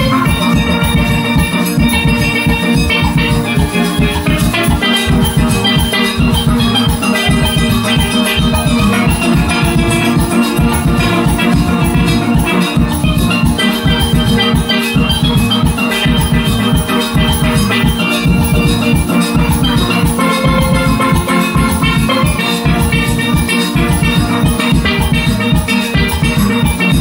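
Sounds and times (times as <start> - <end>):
steel band playing: 0.0 - 27.0.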